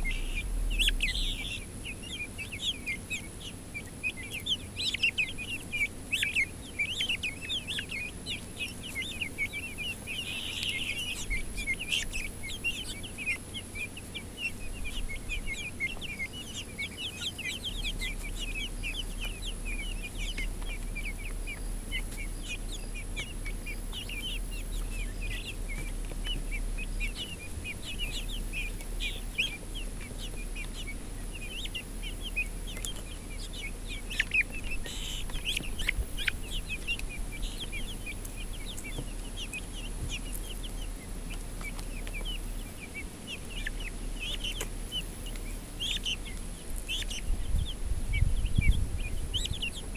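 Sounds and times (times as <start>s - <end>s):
young chickens peeping: 0.0s - 49.9s.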